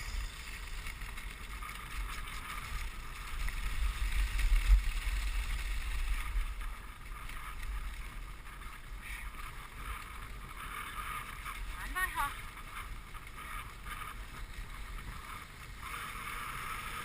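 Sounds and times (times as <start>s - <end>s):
sled runners hissing on snow: 0.0s - 17.0s.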